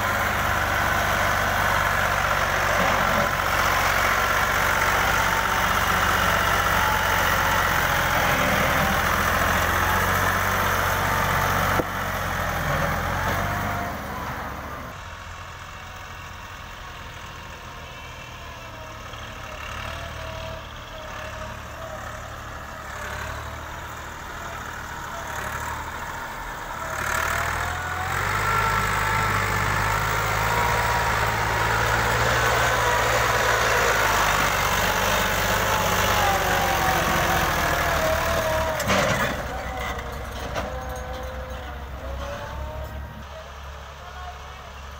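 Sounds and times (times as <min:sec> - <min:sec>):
tractor diesel engine running hard: 0:00.0 - 0:44.9.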